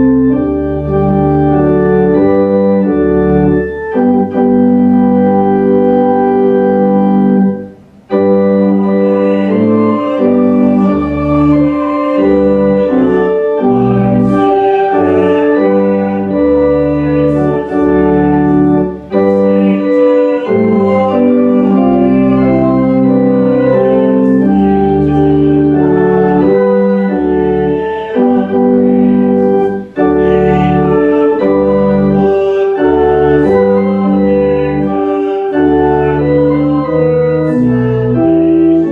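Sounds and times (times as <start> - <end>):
church organ playing a hymn: 0.0 - 38.9.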